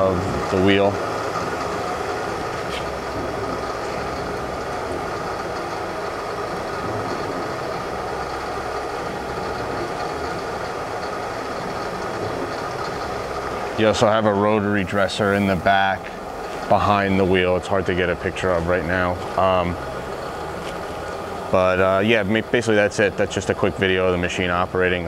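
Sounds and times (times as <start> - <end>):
grinding machine humming: 0.0 - 25.0.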